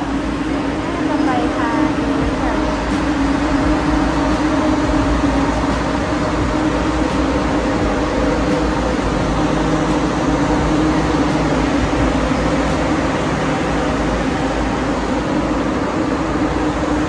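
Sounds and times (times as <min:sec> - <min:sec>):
low droning tone: 0:00.0 - 0:17.0
tram running hum: 0:00.0 - 0:17.0.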